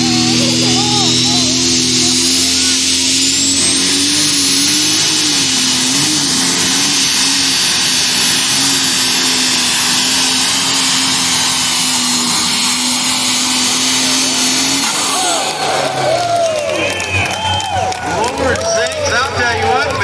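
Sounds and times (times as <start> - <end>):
tractor engine running flat out: 0.0 - 20.0.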